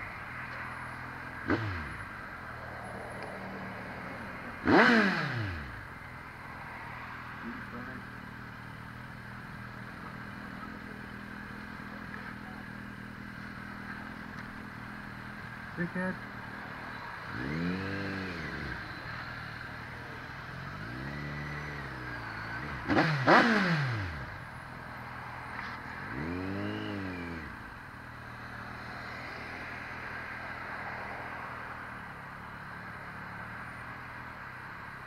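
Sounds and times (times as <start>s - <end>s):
motorcycle engine revving: 1.0s - 30.6s.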